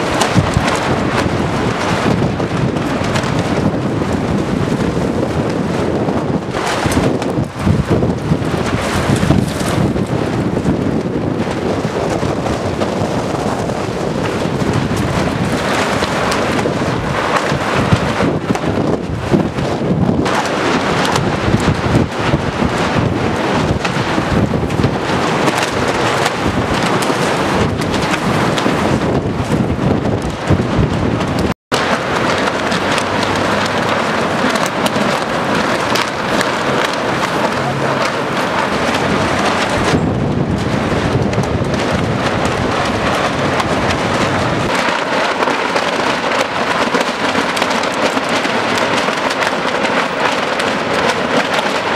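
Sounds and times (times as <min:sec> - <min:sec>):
gusty wind buffeting microphone: 0:00.0 - 0:51.9.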